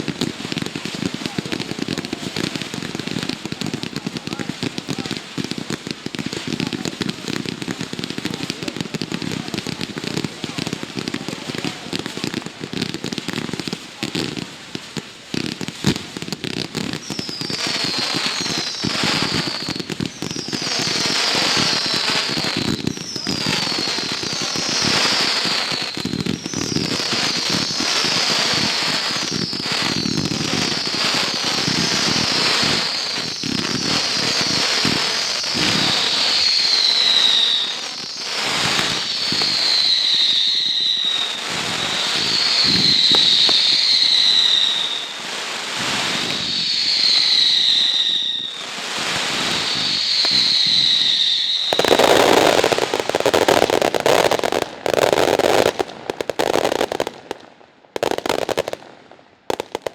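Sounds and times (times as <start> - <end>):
fireworks bangs and crackling: 0.0 - 59.9
whistling fireworks falling in pitch: 0.0 - 59.9.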